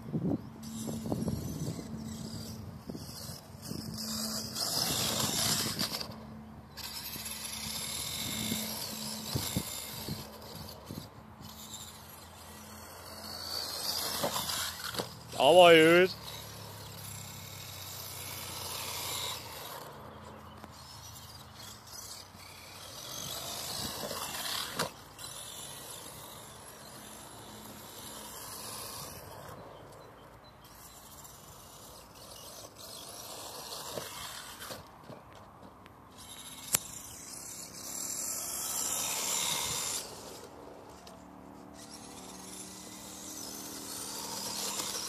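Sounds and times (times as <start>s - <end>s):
rc truck motor and tyre noise: 0.0s - 45.0s.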